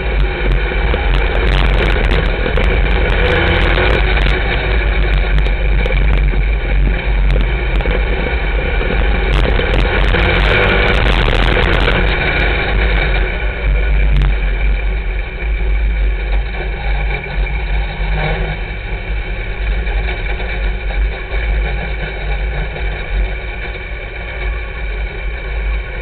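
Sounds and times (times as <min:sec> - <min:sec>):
race car engine running: 0:00.0 - 0:26.0.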